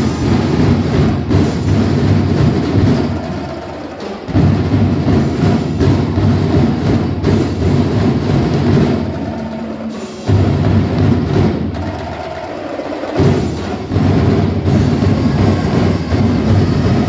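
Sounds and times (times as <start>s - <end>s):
heavy drums and percussion: 0.0s - 17.0s.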